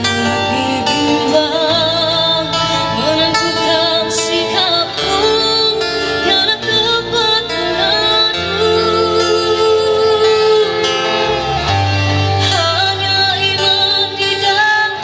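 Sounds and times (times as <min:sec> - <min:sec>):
girl singing into microphone: 0:00.0 - 0:11.2, 0:12.4 - 0:15.0
live rock band: 0:00.0 - 0:15.0.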